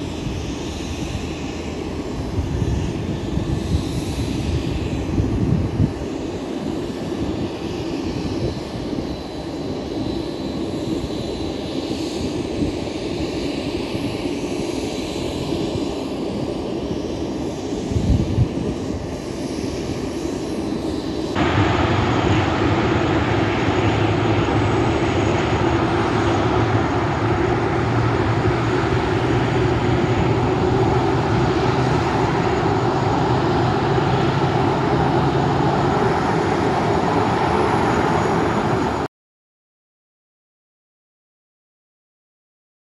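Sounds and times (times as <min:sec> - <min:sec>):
jet engines roaring: 0:00.0 - 0:39.1.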